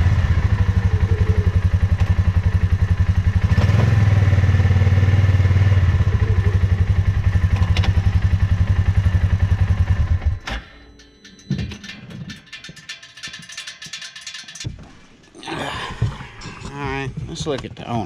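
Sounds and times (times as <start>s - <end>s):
engine idling: 0.0s - 14.7s.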